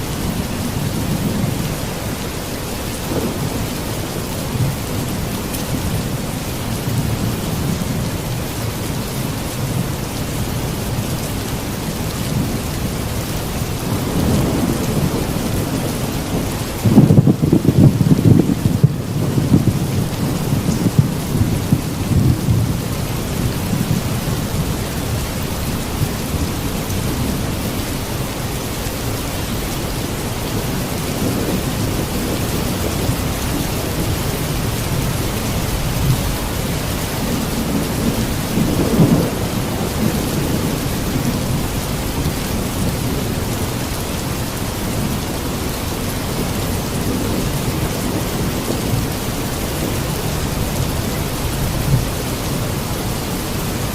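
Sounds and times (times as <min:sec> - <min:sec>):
heavy rain: 0:00.0 - 0:53.9
thunder rumbling: 0:00.0 - 0:53.9.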